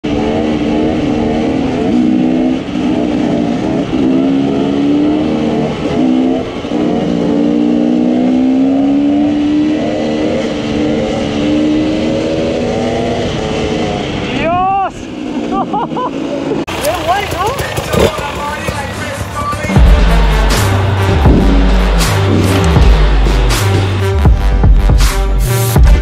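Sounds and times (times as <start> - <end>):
dirt bike engines revving: 0.0 - 25.8.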